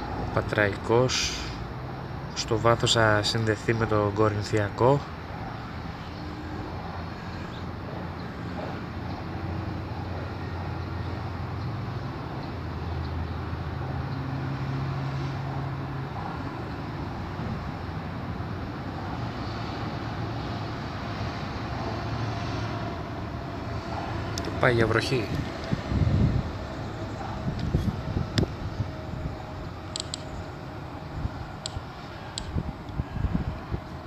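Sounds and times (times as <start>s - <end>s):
low engine-like hum: 0.0s - 34.0s.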